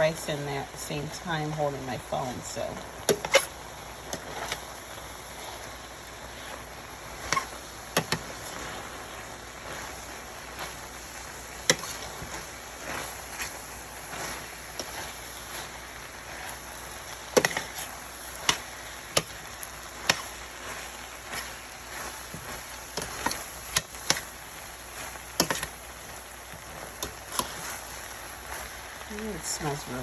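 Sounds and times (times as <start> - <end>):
faint sizzle: 0.0 - 30.0.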